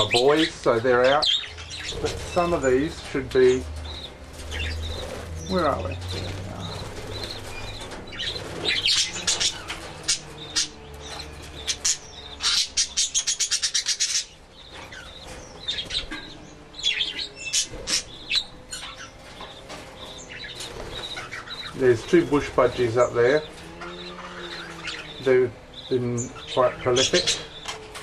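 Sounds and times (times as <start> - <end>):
budgerigars chirping and chattering: 0.0 - 28.0.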